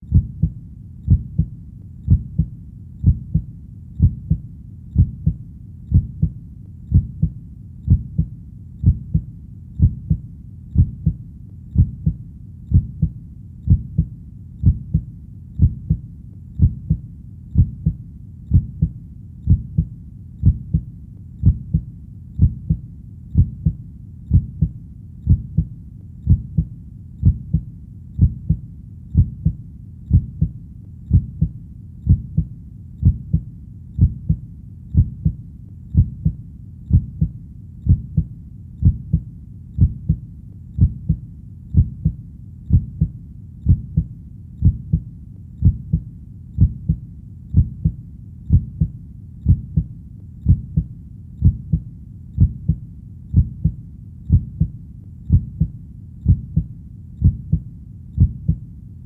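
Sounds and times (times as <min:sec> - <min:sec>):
heartbeat thumps: 0:00.0 - 0:58.6.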